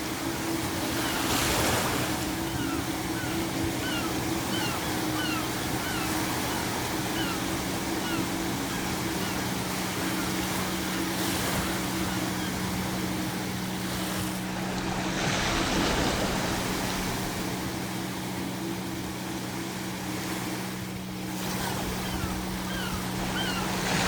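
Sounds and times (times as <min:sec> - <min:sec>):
seagulls calling: 0:00.0 - 0:19.4, 0:20.0 - 0:24.0
ocean waves washing on shore: 0:00.0 - 0:24.0.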